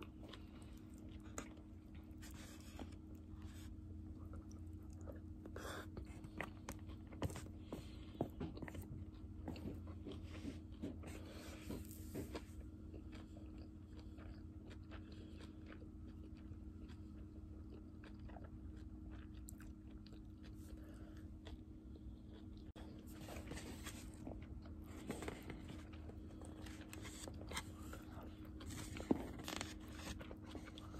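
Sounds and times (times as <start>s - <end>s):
faint steady hum: 0.0s - 30.9s
person chewing food: 0.0s - 30.9s.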